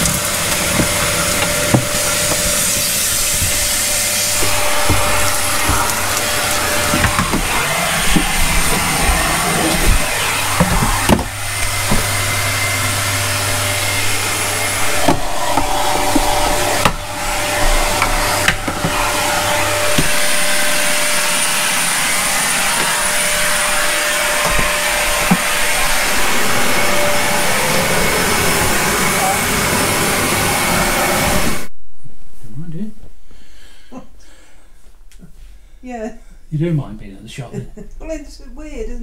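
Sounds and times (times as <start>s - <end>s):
vacuum cleaner whining: 0.0s - 31.7s
low hum: 1.2s - 33.3s.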